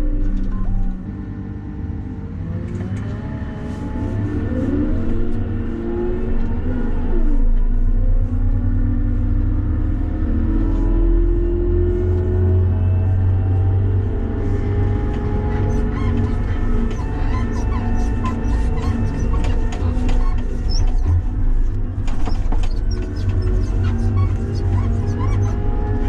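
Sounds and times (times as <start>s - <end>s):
wheel loader diesel engine: 0.0s - 26.0s.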